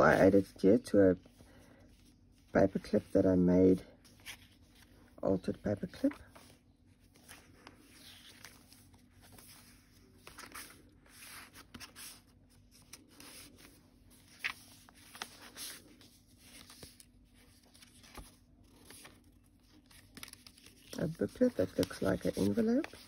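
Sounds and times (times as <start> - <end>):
paper rustling: 1.2 - 23.0.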